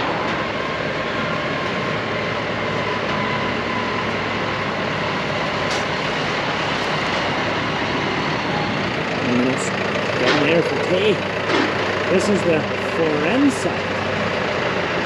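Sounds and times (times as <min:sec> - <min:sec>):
tractor diesel engines running: 0:00.0 - 0:15.0.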